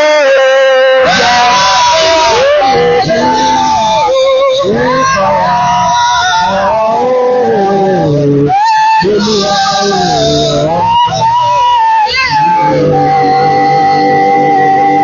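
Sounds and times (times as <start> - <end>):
wordless sliding vocal line: 0.0 - 15.0.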